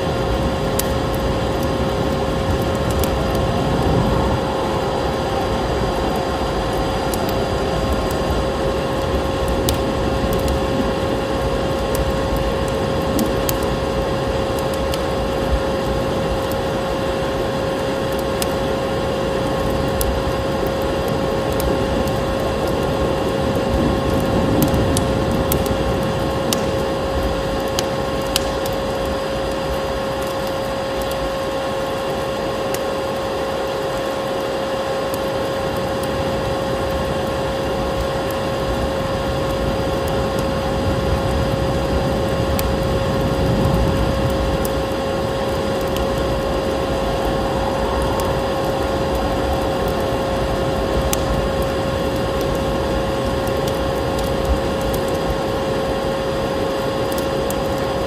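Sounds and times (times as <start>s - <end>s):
vacuum cleaner whine: 0.0s - 58.0s
wood fire crackling: 0.0s - 58.0s.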